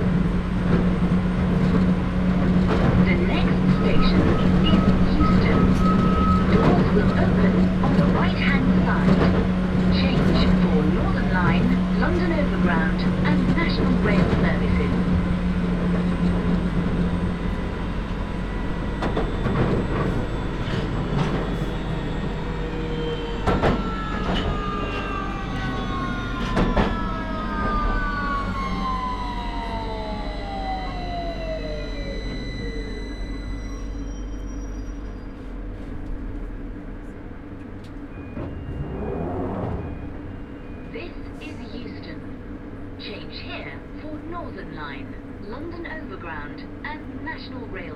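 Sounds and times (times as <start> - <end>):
traction motor whine: 0.0 - 43.2
train rumbling through tunnel: 0.0 - 47.9.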